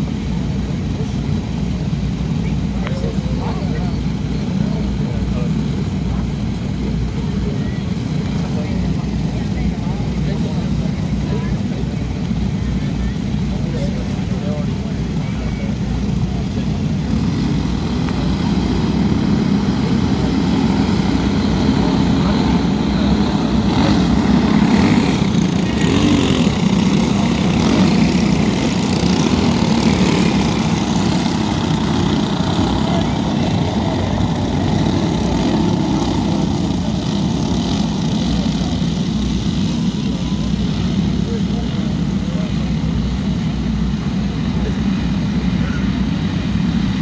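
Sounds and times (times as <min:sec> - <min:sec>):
racing kart engines droning: 0:00.0 - 0:47.0.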